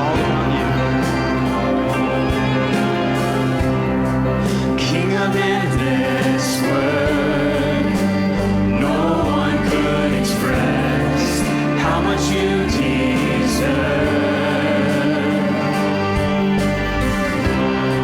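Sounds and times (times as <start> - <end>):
choir and band playing gospel song: 0.0 - 18.0.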